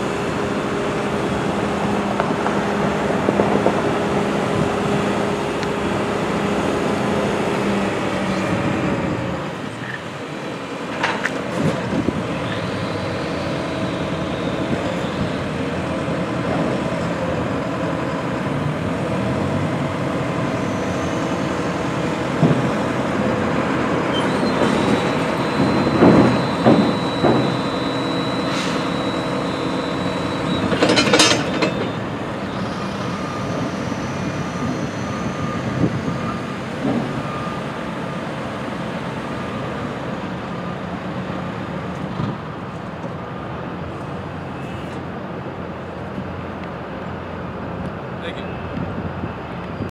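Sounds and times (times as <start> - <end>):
diesel engine running: 0.0 - 48.2.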